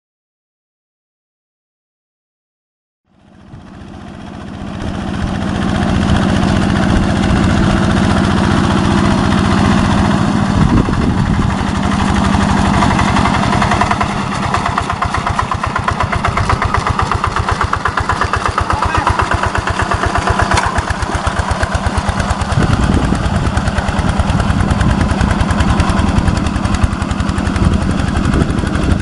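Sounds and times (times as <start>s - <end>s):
diesel engine chugging: 3.1s - 29.0s.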